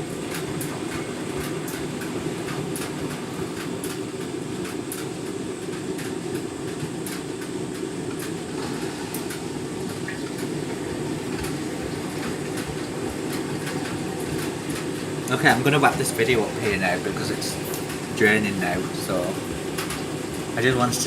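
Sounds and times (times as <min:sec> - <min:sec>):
washing machine drum churning: 0:00.0 - 0:21.0
washing machine clicks: 0:00.2 - 0:21.0.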